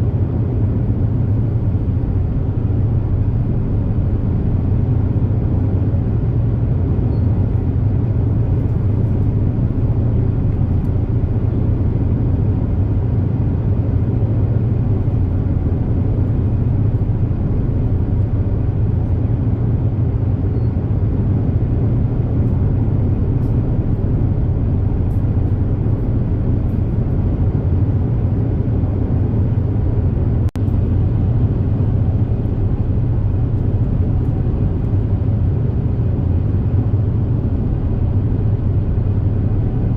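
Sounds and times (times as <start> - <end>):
deep ferry engine drone: 0.0 - 39.9.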